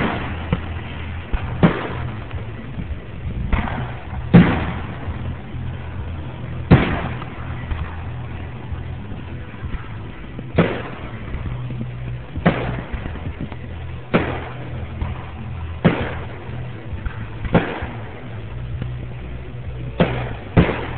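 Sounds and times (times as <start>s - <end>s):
fireworks bursting: 0.0s - 20.9s
steady low hum: 0.0s - 20.9s.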